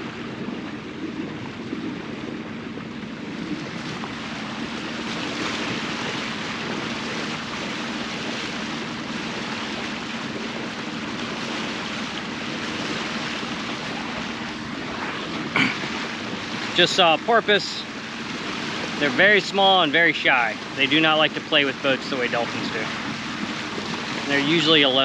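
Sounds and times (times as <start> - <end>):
boat engine humming: 0.0 - 25.0
water rushing along boat hull: 0.0 - 25.0.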